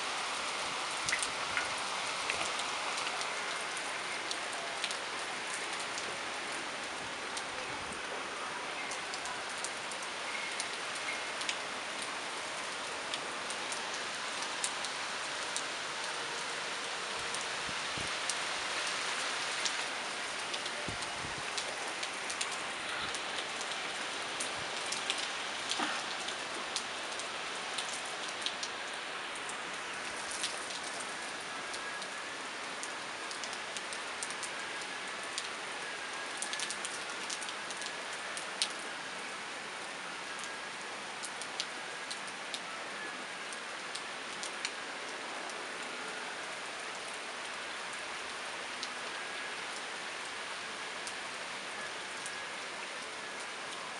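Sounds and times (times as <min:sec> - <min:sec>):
heavy rain: 0:00.0 - 0:53.9
raindrops ticking on surfaces: 0:00.0 - 0:53.9.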